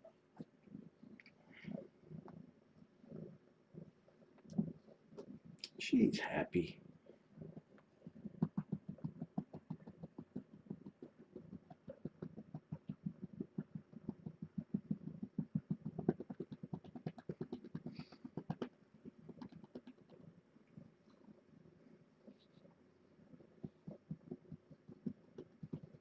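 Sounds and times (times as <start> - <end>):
cat purring: 0.0 - 5.6, 6.5 - 26.0.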